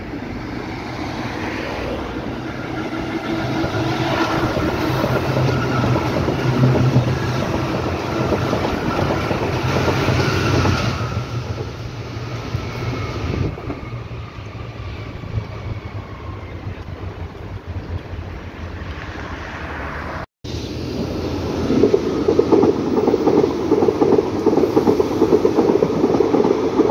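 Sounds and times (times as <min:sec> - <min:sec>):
train wheels on rails: 0:00.0 - 0:26.9.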